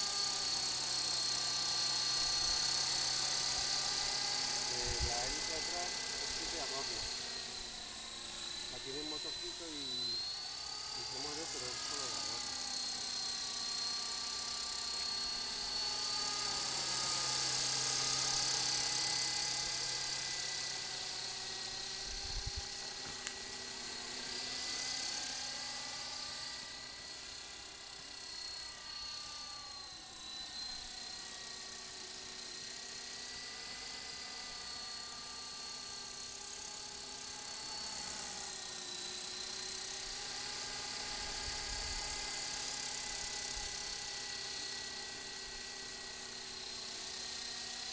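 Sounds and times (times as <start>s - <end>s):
rc helicopter whining: 0.0s - 47.9s.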